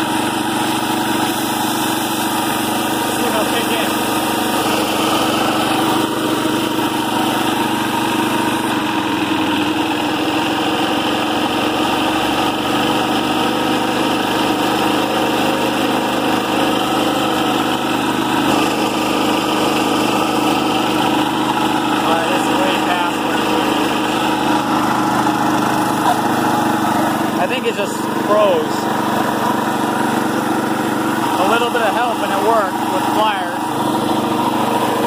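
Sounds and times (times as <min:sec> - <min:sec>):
compressor engine idling: 0:00.0 - 0:35.0.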